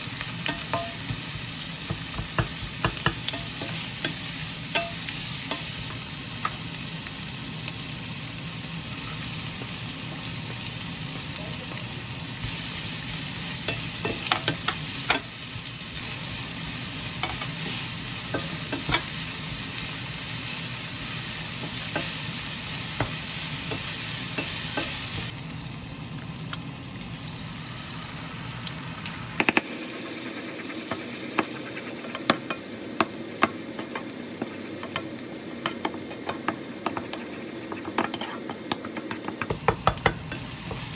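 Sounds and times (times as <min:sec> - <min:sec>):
food sizzling in a frying pan: 0:00.0 - 0:40.9.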